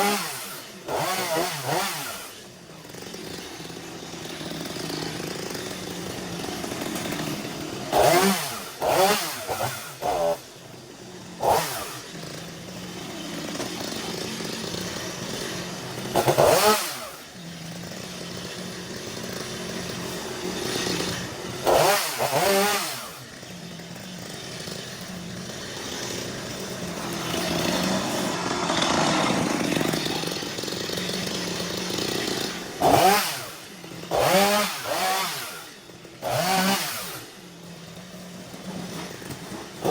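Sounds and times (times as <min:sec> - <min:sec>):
two-stroke power tool engine revving: 0:00.0 - 0:39.9.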